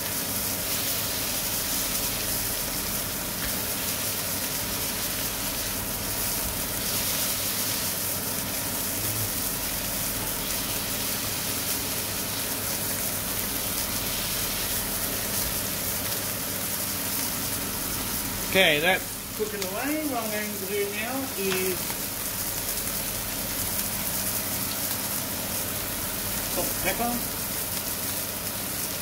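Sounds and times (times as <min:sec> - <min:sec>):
patties sizzling in a frying pan: 0:00.0 - 0:29.0.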